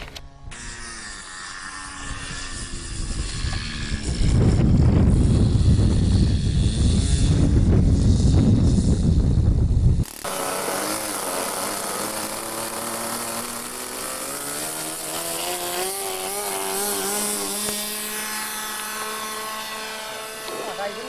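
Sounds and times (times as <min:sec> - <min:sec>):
model aircraft engine buzzing whine: 0:00.0 - 0:21.0.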